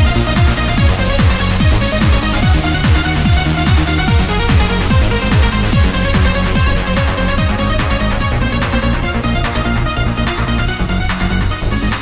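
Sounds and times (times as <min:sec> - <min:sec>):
kick drum: 0:00.0 - 0:10.8
sustained synth chords: 0:00.0 - 0:12.0.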